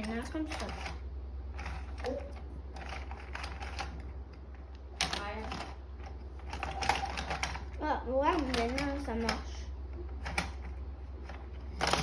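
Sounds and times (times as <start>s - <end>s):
plastic toy clicking and rattling: 0.0s - 9.6s, 10.2s - 12.0s.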